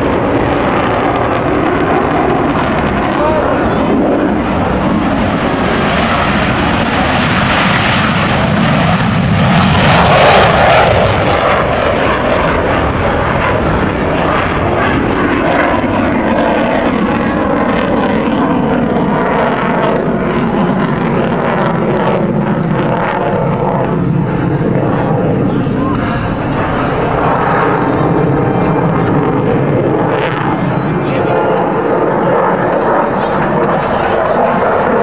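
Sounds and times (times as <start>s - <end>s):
jet engine at takeoff power: 0.0s - 35.0s.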